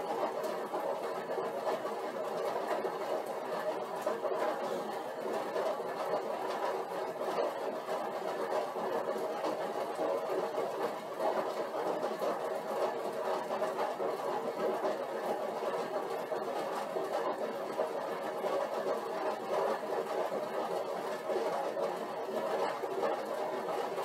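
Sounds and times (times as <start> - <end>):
exercise bike whirring: 0.0 - 24.0.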